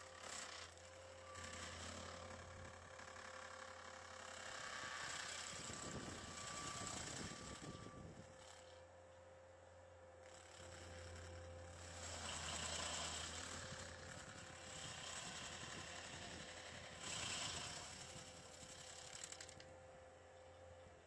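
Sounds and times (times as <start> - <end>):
stump grinder grinding: 0.0 - 9.2, 10.2 - 20.8
skid steer engine running: 0.0 - 21.0.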